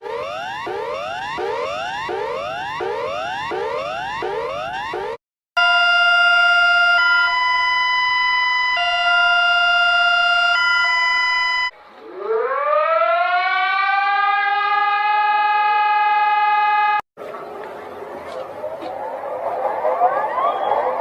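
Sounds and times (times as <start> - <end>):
siren winding up: 0.0 - 17.0.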